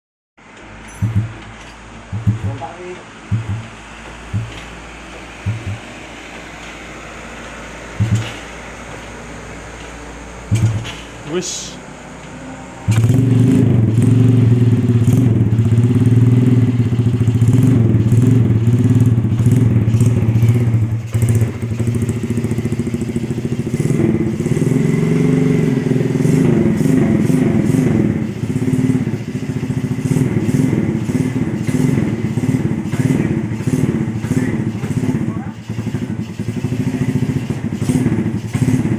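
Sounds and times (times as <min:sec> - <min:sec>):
motorcycle engine revving: 0:00.5 - 0:38.9.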